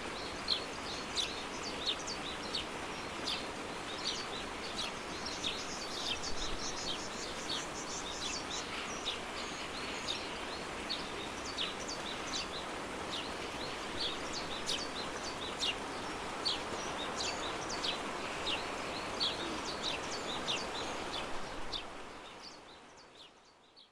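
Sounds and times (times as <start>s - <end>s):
steady background hiss: 0.0s - 23.9s
small birds chirping: 0.1s - 23.9s.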